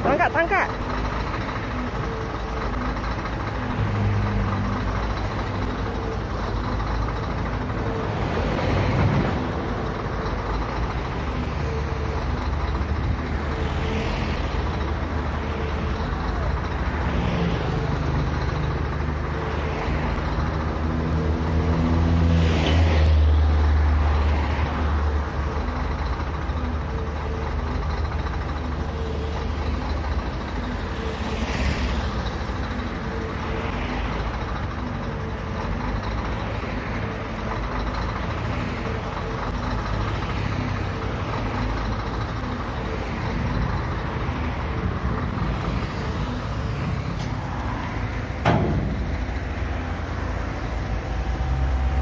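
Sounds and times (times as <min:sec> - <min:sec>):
large vehicle passing: 0:00.0 - 0:25.8, 0:28.4 - 0:52.0
diesel engine idling: 0:00.0 - 0:52.0
road traffic: 0:00.0 - 0:52.0.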